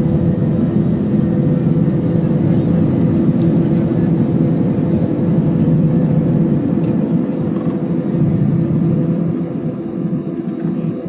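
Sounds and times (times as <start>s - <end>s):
wheels rumbling on runway: 0.0s - 9.0s
jet engines droning: 0.0s - 11.0s.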